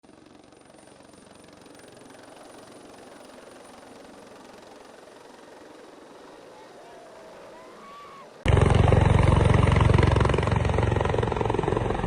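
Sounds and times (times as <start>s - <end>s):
engine droning: 1.1s - 12.0s.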